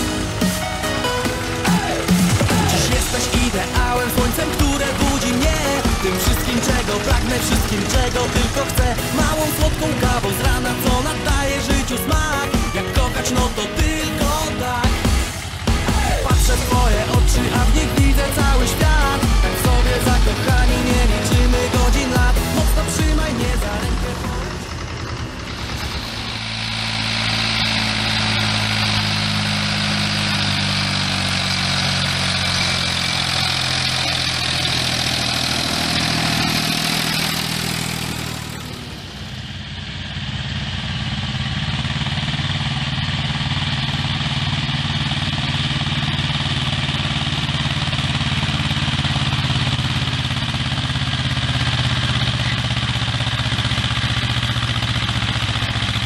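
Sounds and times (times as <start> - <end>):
tractor chugging: 0.0 - 56.0
tractor engines running: 0.0 - 56.0.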